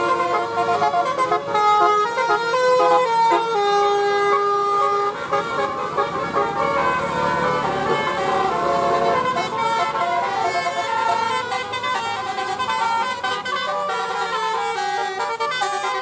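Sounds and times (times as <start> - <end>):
bus multi-tone horn tune: 0.0 - 16.0.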